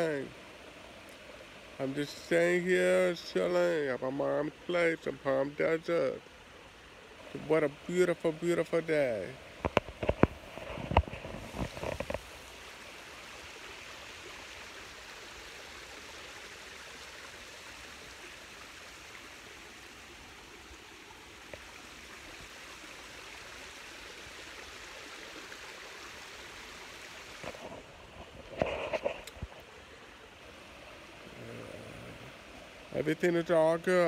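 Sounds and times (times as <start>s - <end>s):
water cascading over rocks: 0.0s - 34.0s.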